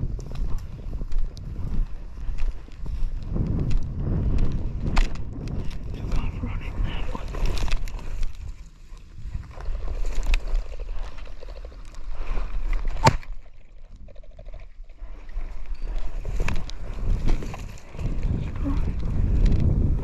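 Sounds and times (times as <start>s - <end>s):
wind buffeting microphone: 0.0s - 13.1s, 13.8s - 20.0s.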